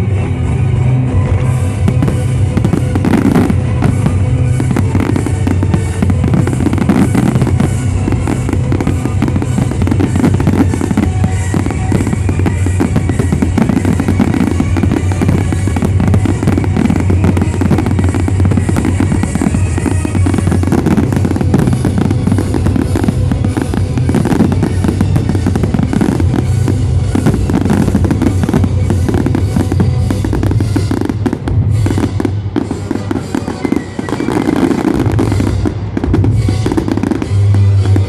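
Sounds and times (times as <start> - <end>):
fireworks bangs and crackles: 0.0 - 38.0
loud music with drum beat: 1.0 - 38.0.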